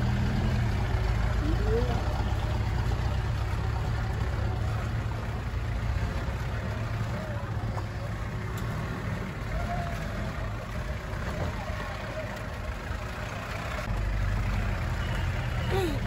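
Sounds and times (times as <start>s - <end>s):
car engine running steadily: 0.0s - 14.6s
road noise: 0.0s - 16.0s.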